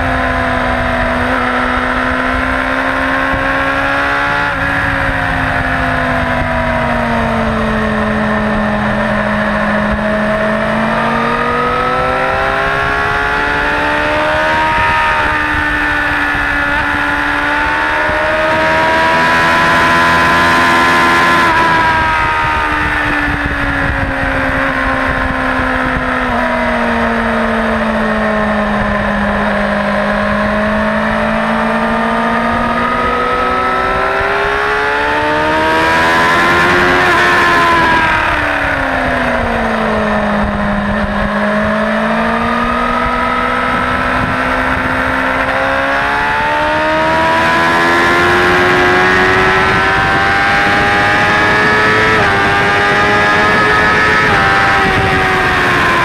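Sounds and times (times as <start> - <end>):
motorcycle engine revving: 0.0 - 56.0
wind rush: 0.6 - 56.0.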